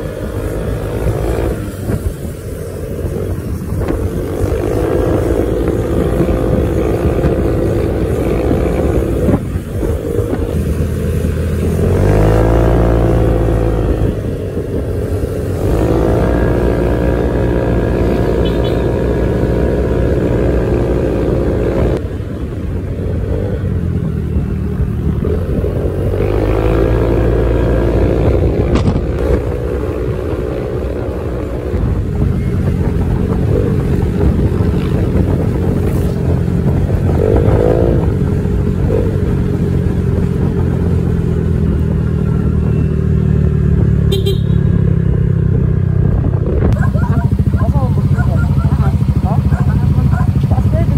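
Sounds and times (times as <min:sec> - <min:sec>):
scooter engine running: 0:00.0 - 0:22.1, 0:22.7 - 0:50.9
road rumble: 0:00.0 - 0:50.9
wind noise: 0:00.0 - 0:50.9.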